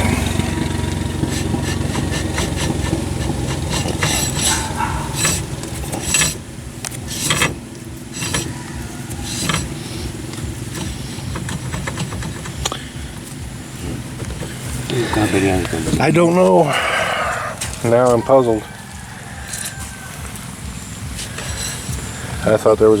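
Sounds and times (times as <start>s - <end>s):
engine running steadily: 0.0s - 23.0s
metal tools clinking: 1.2s - 22.9s.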